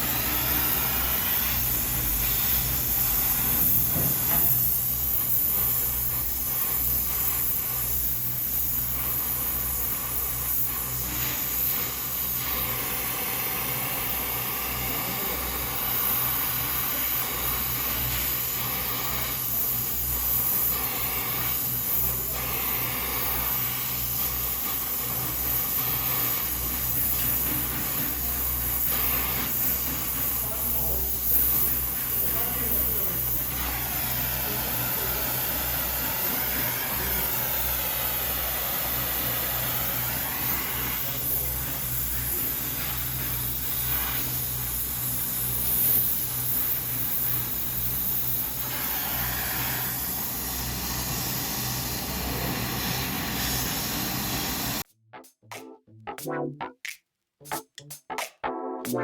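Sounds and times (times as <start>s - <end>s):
steady hiss: 0.0s - 54.8s.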